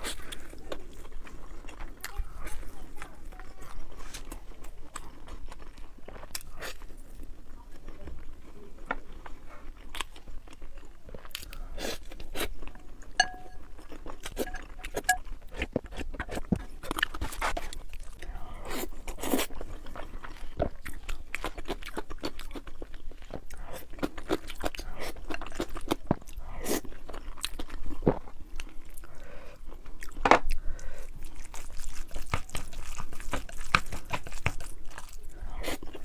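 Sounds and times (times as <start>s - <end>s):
crunching and chewing food: 0.0s - 36.0s.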